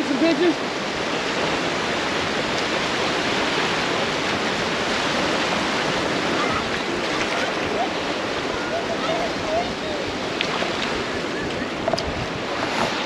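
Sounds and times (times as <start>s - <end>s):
shallow surf washing in: 0.0s - 13.0s.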